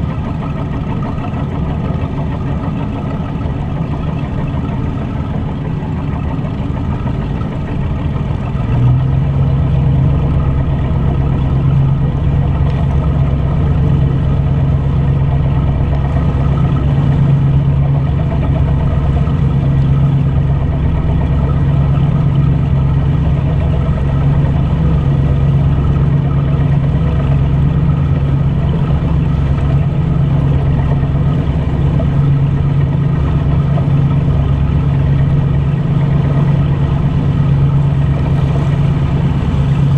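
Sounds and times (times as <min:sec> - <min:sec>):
boat engine droning: 0:00.0 - 0:39.9
water splashing along hull: 0:00.0 - 0:39.9.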